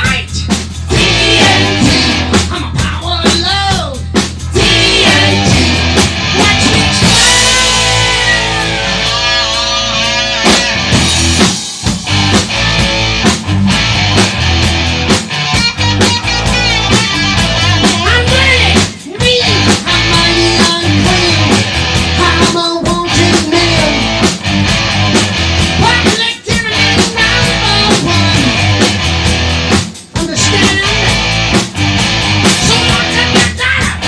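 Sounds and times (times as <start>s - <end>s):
distorted electric guitars: 0.0s - 34.0s
drum kit: 0.0s - 34.0s.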